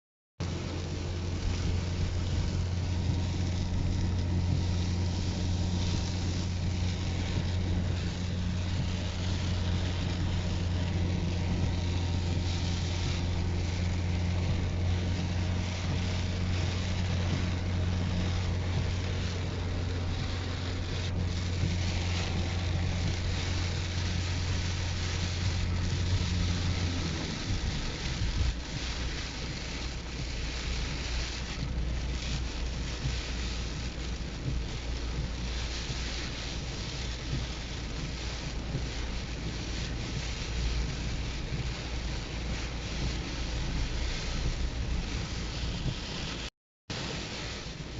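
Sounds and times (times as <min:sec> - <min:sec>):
low engine-like hum: 0:00.4 - 0:47.9
storm wind on microphone: 0:00.5 - 0:47.9.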